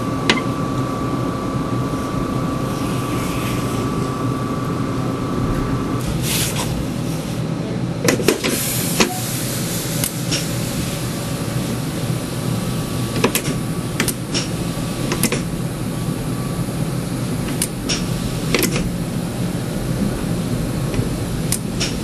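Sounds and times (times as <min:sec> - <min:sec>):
tram humming: 0:00.0 - 0:22.0.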